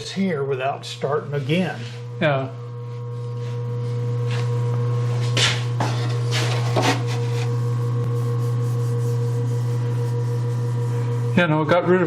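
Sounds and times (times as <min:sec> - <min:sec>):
surface grinder humming: 0:00.0 - 0:12.0.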